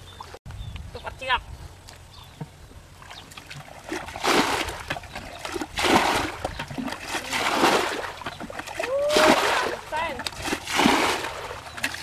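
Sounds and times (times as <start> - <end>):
pond water splashing: 1.8 - 12.0.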